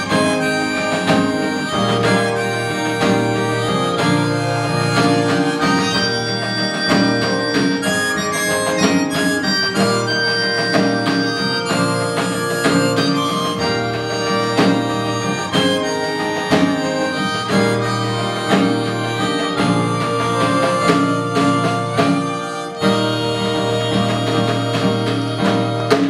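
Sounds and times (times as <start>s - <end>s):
fiddle melody: 0.0s - 26.0s
strummed acoustic guitar: 0.0s - 26.0s.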